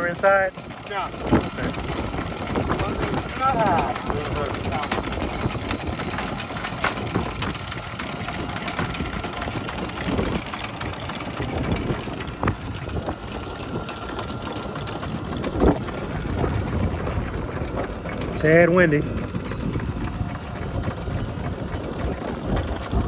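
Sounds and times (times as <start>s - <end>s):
boat engines idling: 0.0s - 23.0s
wind buffeting microphone: 0.0s - 23.0s.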